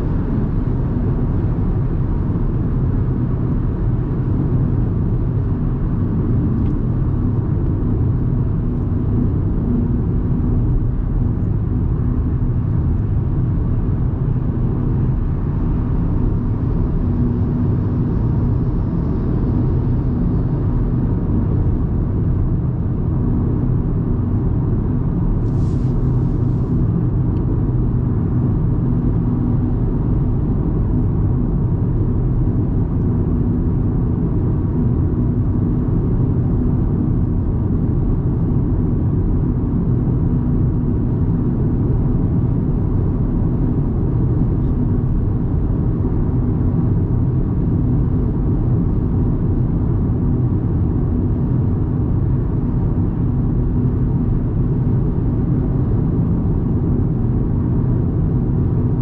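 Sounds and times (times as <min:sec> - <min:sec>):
road rumble: 0:00.0 - 0:59.0.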